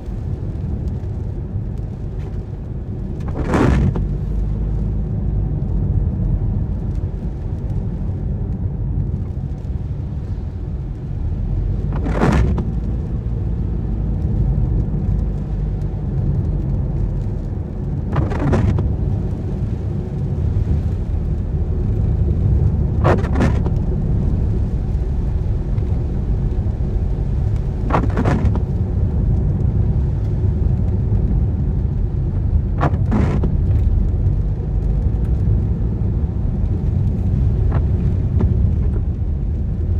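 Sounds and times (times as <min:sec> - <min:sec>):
road and engine rumble: 0:00.0 - 0:39.9
windscreen wipers swishing: 0:00.0 - 0:39.9.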